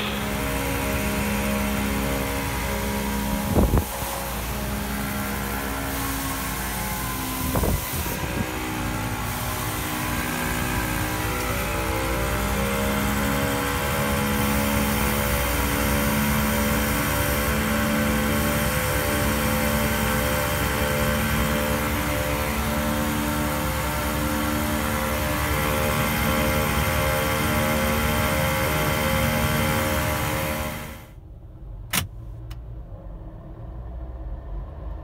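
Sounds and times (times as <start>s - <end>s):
spinning driveline droning hum: 0.0s - 31.1s.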